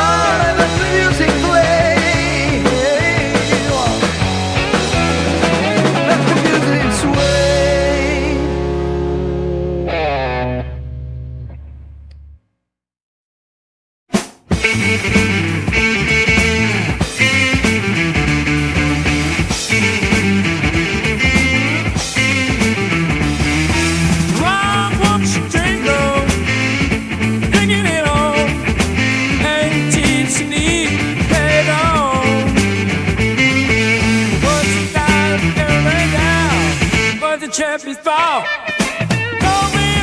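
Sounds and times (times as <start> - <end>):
rock band playing: 0.0 - 11.6, 14.1 - 40.0
lead guitar bending notes: 0.0 - 12.4, 14.6 - 37.2, 38.3 - 40.0.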